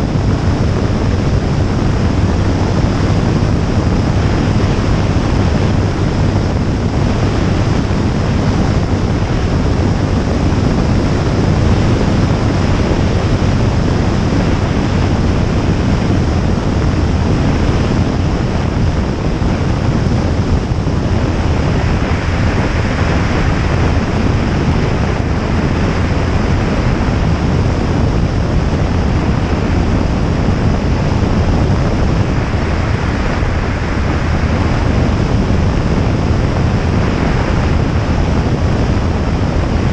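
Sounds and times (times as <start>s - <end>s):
aircraft engine and propeller: 0.0s - 39.9s
wind rush on microphone: 0.0s - 39.9s.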